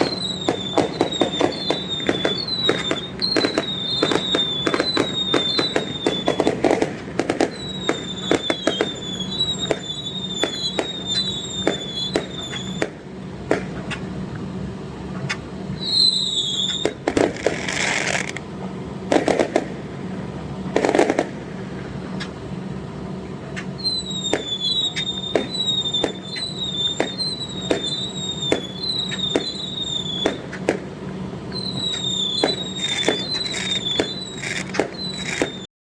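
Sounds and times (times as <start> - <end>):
firework bangs and pops: 0.0 - 14.5, 15.1 - 22.4, 23.5 - 35.7
firework crackling: 0.0 - 35.7
firework whistles: 0.0 - 35.7.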